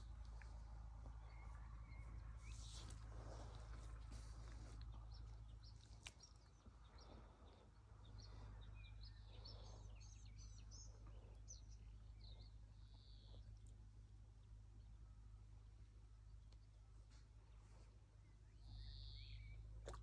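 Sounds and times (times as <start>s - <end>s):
faint bird chirps: 0.0s - 20.0s
low steady hum: 0.0s - 20.0s.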